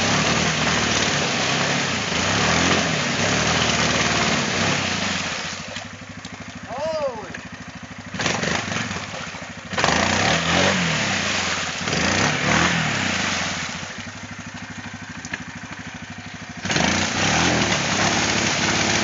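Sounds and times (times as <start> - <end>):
quad bike engine revving: 0.0 - 19.0
wheels churning mud and water: 0.0 - 19.0.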